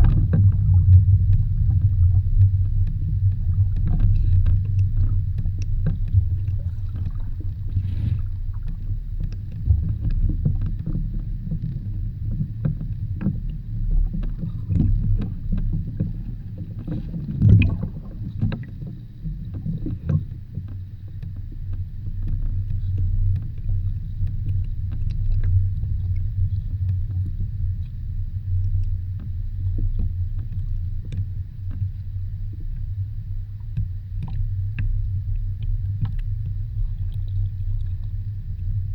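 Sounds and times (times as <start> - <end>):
muffled water rumble: 0.0 - 38.9.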